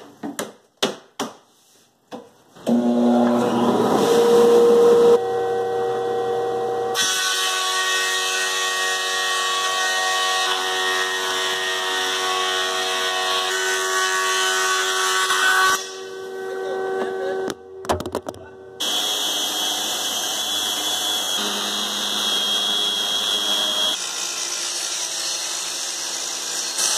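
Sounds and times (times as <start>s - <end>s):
thickness planer whining: 2.6s - 17.5s, 18.8s - 26.9s.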